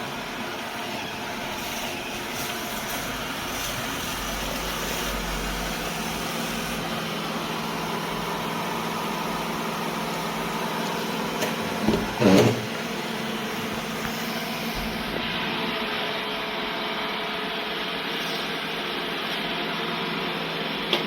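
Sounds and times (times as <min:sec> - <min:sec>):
robot vacuum running: 0:00.0 - 0:21.0.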